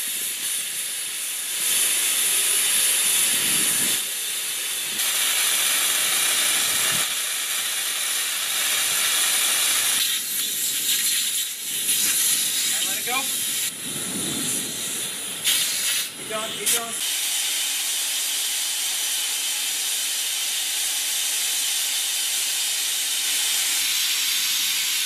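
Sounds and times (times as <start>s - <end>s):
air hissing from tire valve: 0.0s - 25.0s.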